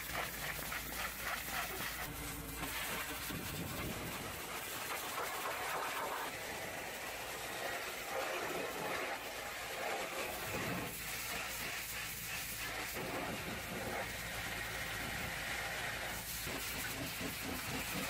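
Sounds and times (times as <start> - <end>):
pressure washer spray hissing: 0.0 - 18.0.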